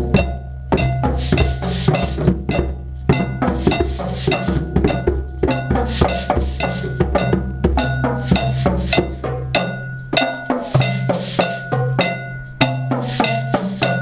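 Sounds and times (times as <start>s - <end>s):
cowbell: 0.0s - 14.0s
hand drums playing fast rhythm: 0.0s - 14.0s
wood block: 0.0s - 14.0s.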